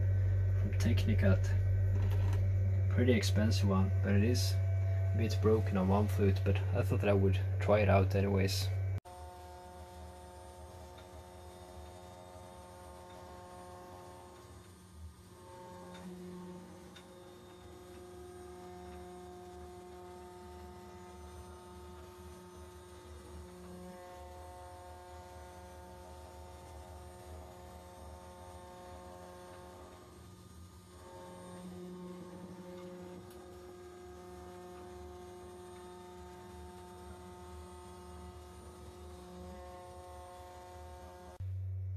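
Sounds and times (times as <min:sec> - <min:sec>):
cnc router spindle hum: 0:00.0 - 0:41.6.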